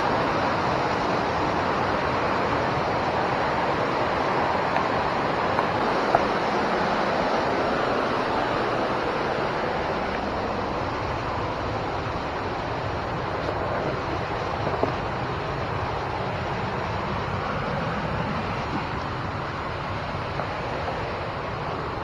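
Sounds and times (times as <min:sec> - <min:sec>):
water rushing over a dam: 0:00.0 - 0:22.0.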